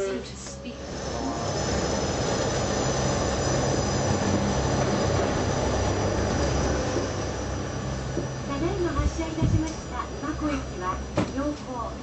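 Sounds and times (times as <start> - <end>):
faint high whine: 0.0 - 12.0
gondola mechanical rumble: 0.0 - 12.0.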